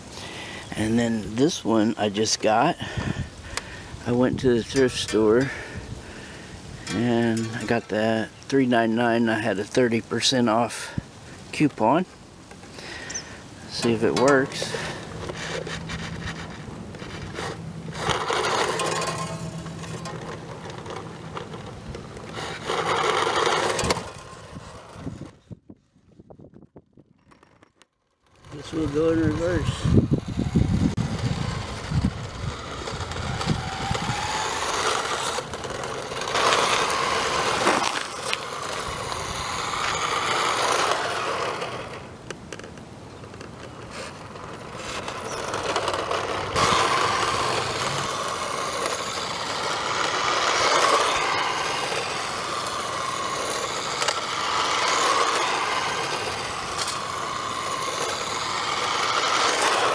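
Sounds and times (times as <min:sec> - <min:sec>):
toy car motor whining: 0:00.2 - 0:09.6, 0:12.7 - 0:25.5, 0:27.2 - 0:59.9.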